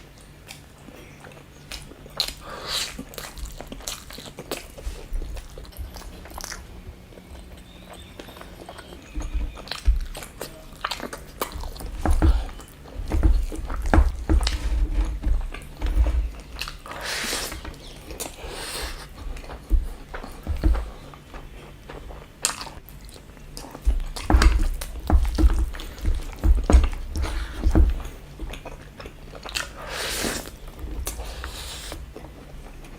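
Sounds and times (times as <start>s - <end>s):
chewing and mouth smacks: 0.1s - 32.9s.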